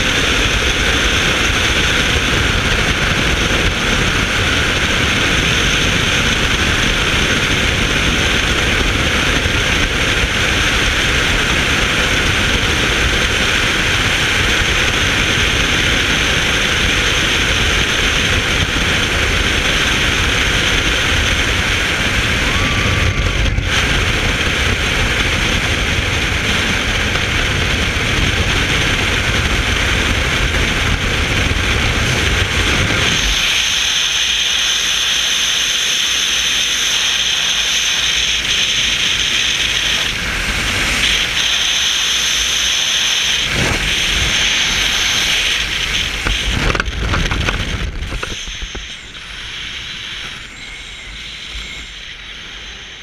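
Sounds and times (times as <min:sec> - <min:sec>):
freefall wind roar on microphone: 0:00.0 - 0:53.0.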